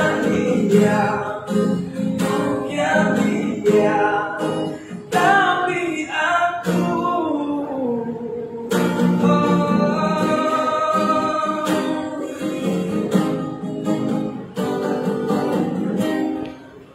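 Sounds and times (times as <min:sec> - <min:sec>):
man singing: 0:00.0 - 0:13.6
strummed acoustic guitar: 0:00.0 - 0:16.9.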